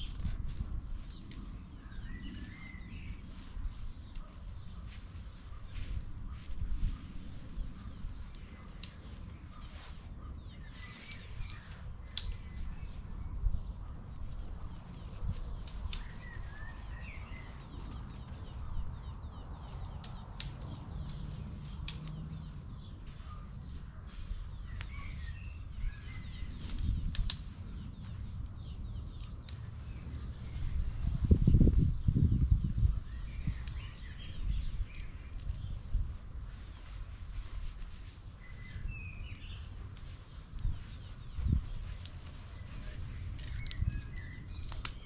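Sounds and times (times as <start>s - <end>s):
faint birds chirping: 0.0s - 45.0s.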